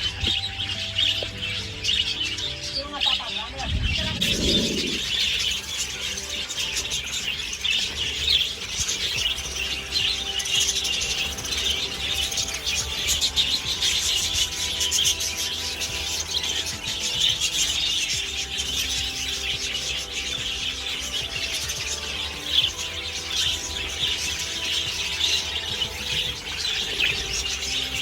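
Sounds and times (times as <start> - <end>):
budgerigars chattering: 0.0 - 28.0.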